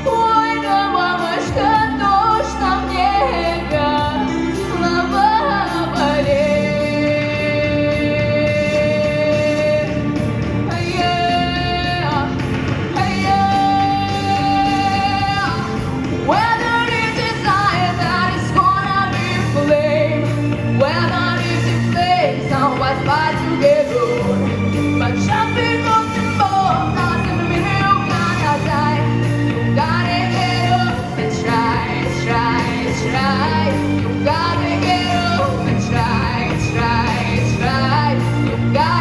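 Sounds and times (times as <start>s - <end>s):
instrumental backing track: 0.0s - 39.0s
woman singing folk-style song: 0.0s - 39.0s.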